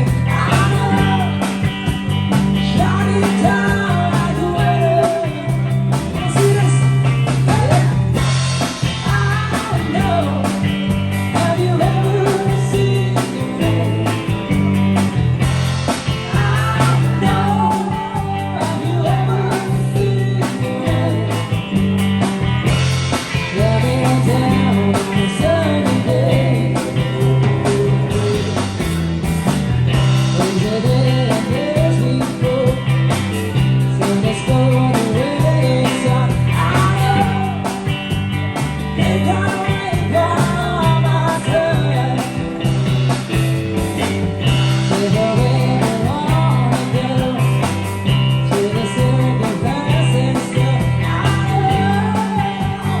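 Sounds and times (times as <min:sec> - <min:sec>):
guitar: 0:00.0 - 0:53.0
rock music: 0:00.0 - 0:53.0
stepping bass line: 0:00.0 - 0:53.0.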